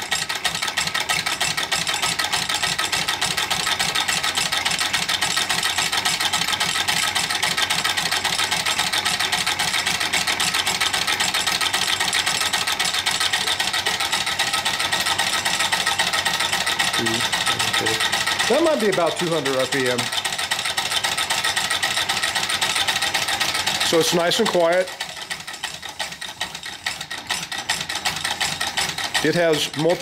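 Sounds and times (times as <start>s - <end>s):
engine valve gear ticking: 0.0s - 30.0s.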